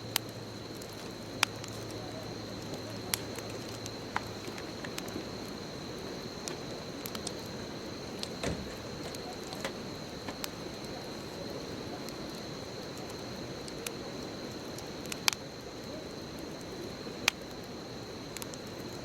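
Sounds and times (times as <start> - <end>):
bonfire crackling: 0.0 - 19.0
sharp pops of burning wood: 0.1 - 19.0.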